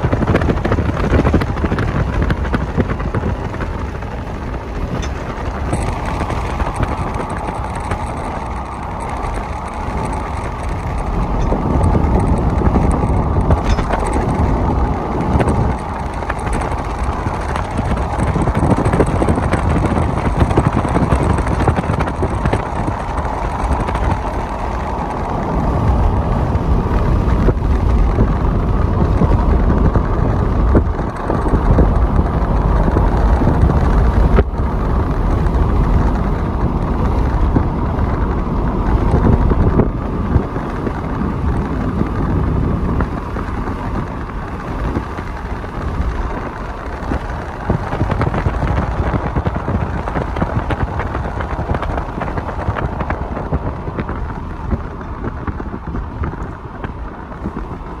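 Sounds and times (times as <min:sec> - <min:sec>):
freight train rumbling past: 0:00.0 - 0:58.0
wind buffeting microphone: 0:00.0 - 0:58.0.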